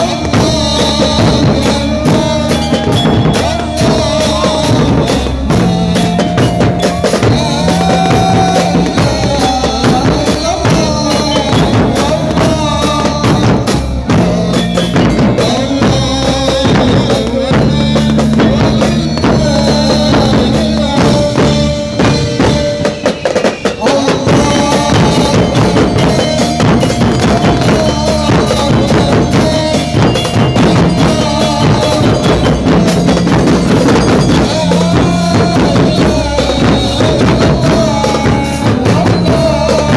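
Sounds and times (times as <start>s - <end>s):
steady bass line: 0.0s - 23.1s, 23.8s - 39.9s
music with fast drum beat: 0.0s - 39.9s.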